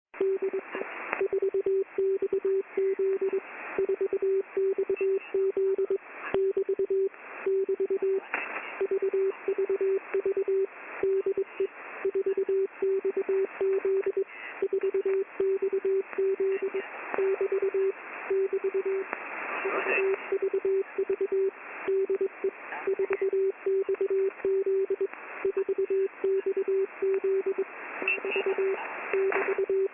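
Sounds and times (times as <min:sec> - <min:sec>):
morse code beeps: 0:00.2 - 0:00.6, 0:01.2 - 0:08.2, 0:08.8 - 0:19.0, 0:19.6 - 0:29.9
radio static with crackles: 0:00.2 - 0:29.9.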